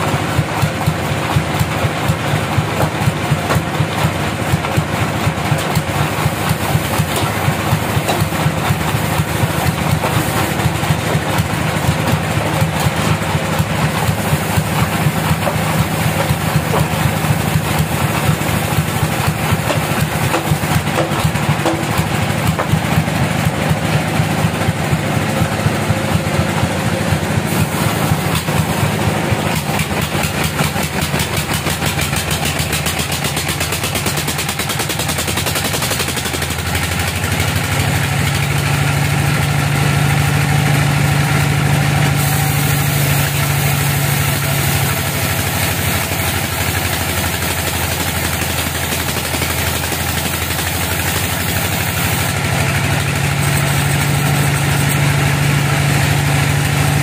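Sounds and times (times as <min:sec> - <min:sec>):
bandsaw sawmill engine running: 0:00.0 - 0:57.0.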